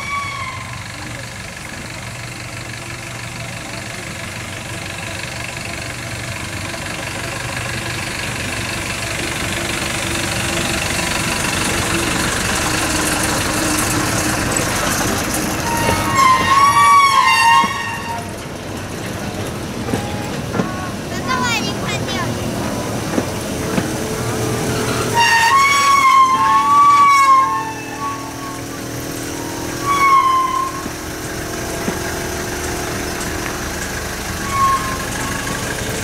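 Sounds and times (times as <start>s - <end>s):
rail cart engine and running gear: 0.0s - 36.0s.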